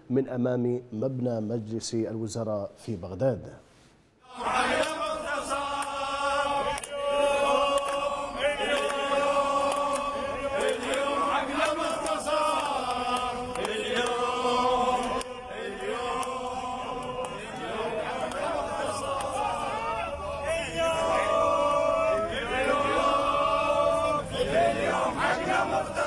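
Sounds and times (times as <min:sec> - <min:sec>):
crowd chanting: 0:04.2 - 0:26.0.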